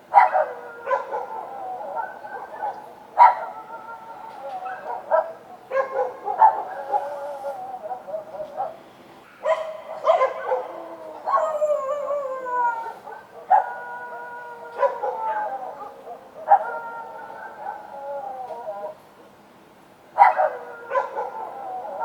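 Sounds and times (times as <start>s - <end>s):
dogs barking: 0.0s - 19.0s, 20.2s - 22.0s
dogs howling: 0.1s - 8.8s, 9.4s - 19.0s, 20.2s - 22.0s.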